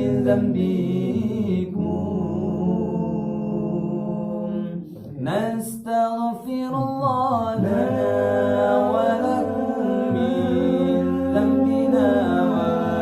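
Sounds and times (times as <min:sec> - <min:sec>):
vocal group singing a cappella: 0:00.0 - 0:13.0.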